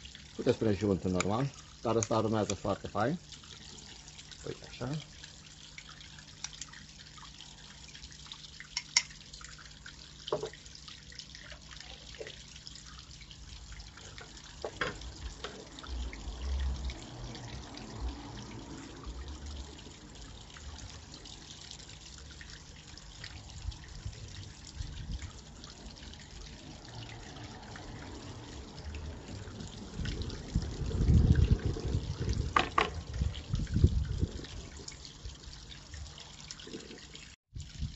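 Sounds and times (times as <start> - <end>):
fountain water trickling: 0.0 - 37.9.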